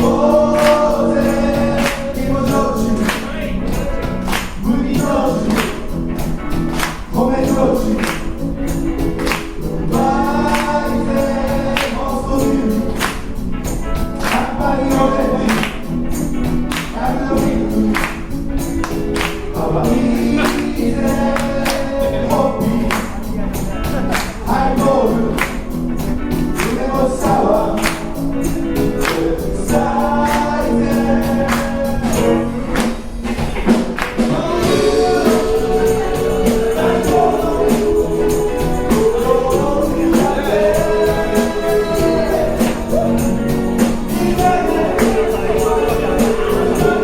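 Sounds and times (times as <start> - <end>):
live band playing: 0.0 - 47.0
person singing: 0.0 - 47.0
tambourine: 0.0 - 47.0.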